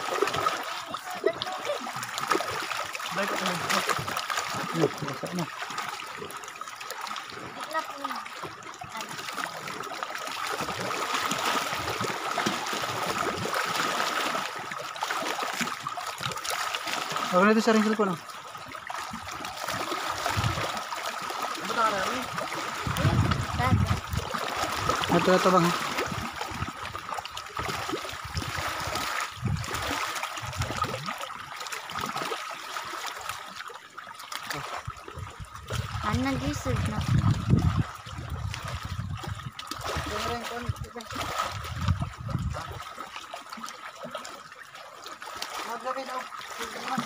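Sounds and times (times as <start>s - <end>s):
lake water lapping against canoe: 0.0s - 47.0s
stream trickling over rocks: 0.0s - 47.0s.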